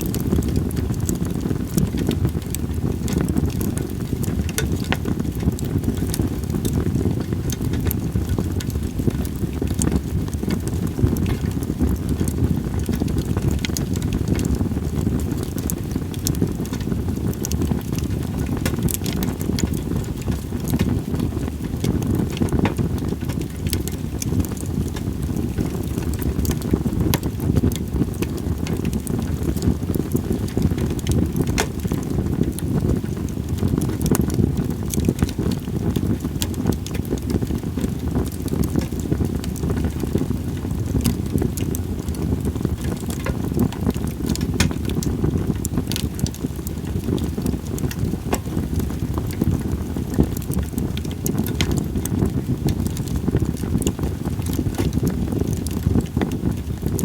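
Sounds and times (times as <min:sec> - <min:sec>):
campfire crackling and popping: 0:00.0 - 0:57.0
wind rumbling: 0:00.0 - 0:57.0.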